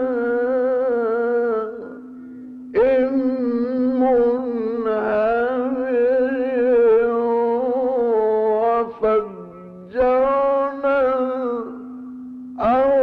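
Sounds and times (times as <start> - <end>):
man reciting melodically: 0.0 - 2.2, 2.8 - 13.0.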